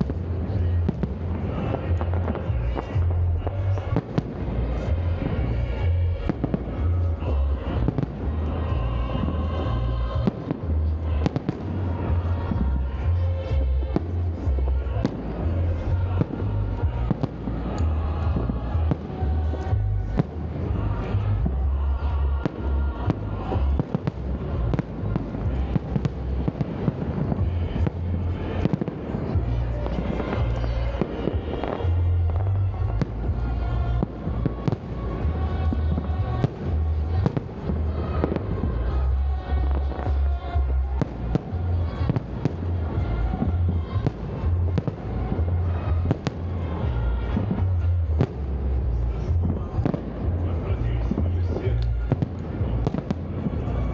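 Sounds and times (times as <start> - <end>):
firework bangs: 0.0 - 53.9
low rumble: 0.0 - 53.9.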